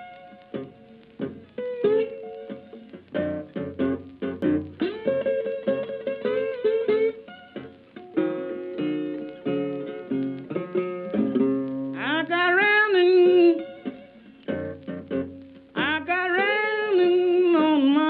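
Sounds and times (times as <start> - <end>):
plucked guitar notes: 0.0 - 18.0.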